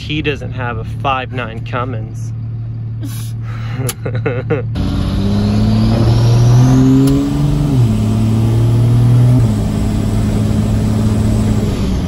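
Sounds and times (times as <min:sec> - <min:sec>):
diesel engine pulling heard from cab: 0:00.0 - 0:12.0.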